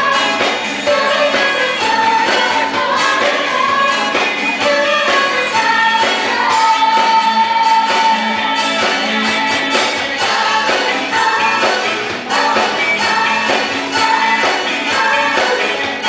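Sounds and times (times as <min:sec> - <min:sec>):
electric guitar: 0:00.0 - 0:16.0
live band playing: 0:00.0 - 0:16.0
person singing: 0:00.0 - 0:16.0.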